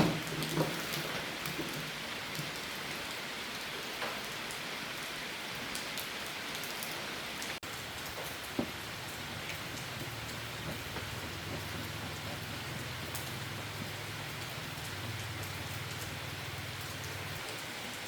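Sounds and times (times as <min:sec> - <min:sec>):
faint taps of raindrops: 0:00.0 - 0:04.6, 0:05.6 - 0:18.0
rain falling hiss: 0:00.0 - 0:18.0.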